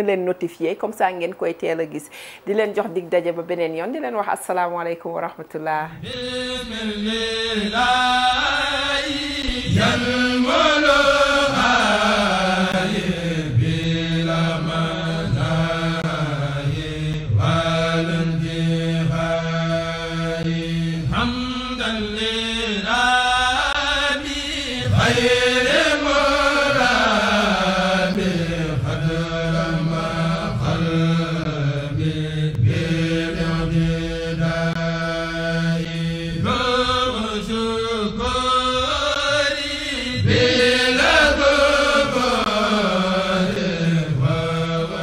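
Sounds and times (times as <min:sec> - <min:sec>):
chanting voice with long notes: 0:05.9 - 0:45.0.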